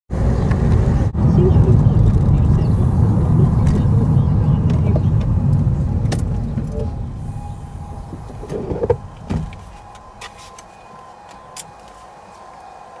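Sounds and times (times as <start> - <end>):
car engine idling: 0.1 - 13.0
car road noise and engine rumble: 0.1 - 13.0.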